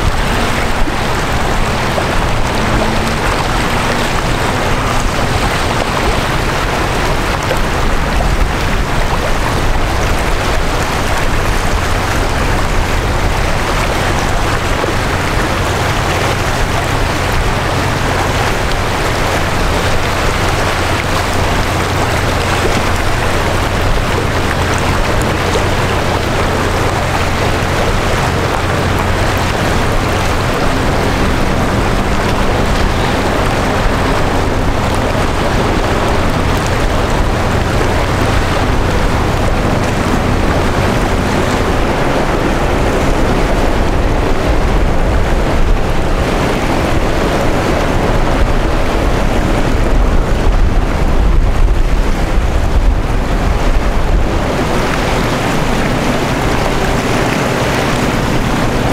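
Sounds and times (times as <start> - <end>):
choppy water: 0.0 - 58.9
ship engine humming: 0.0 - 58.9
wind buffeting microphone: 0.0 - 58.9.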